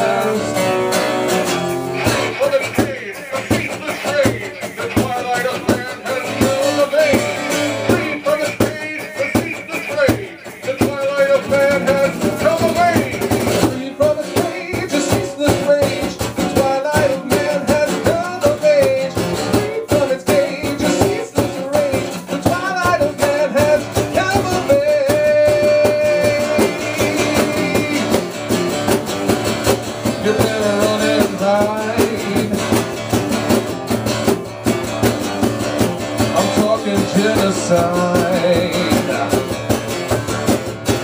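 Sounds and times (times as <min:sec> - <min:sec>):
bending guitar melody: 0:00.0 - 0:41.0
live rock band playing: 0:00.0 - 0:41.0.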